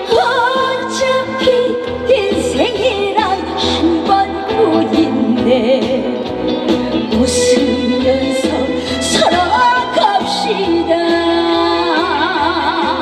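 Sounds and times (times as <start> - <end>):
band playing steady beat: 0.0 - 13.0
woman singing: 0.0 - 13.0.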